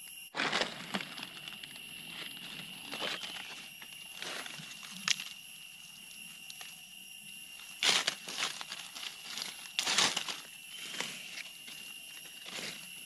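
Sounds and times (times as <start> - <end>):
dry leaves crunching underfoot: 0.3 - 13.0.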